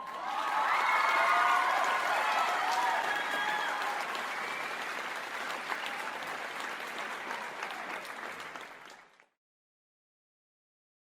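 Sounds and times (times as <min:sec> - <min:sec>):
crowd applause: 0:00.0 - 0:09.4.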